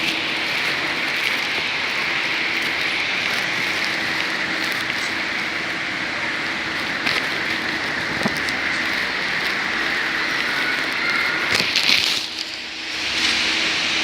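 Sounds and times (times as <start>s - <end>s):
heavy rain falling: 0.0s - 13.2s.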